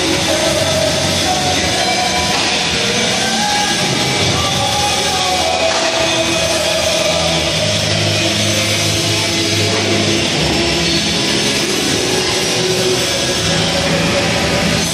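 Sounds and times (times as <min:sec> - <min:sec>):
rock music with distorted guitar: 0:00.0 - 0:14.9.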